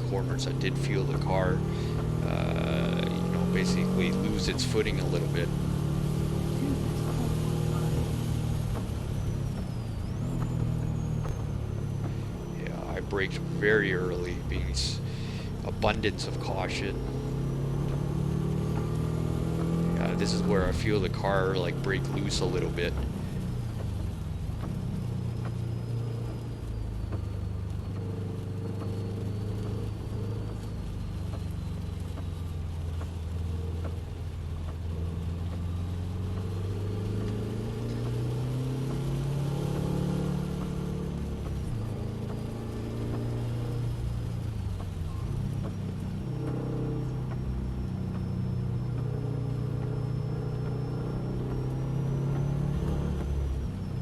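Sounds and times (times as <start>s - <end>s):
car engine revving: 0.0s - 54.0s
road and spray hiss: 0.0s - 54.0s.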